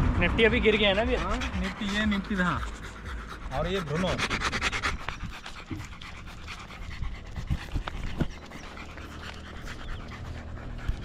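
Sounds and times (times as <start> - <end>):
dog panting: 0.1 - 11.0.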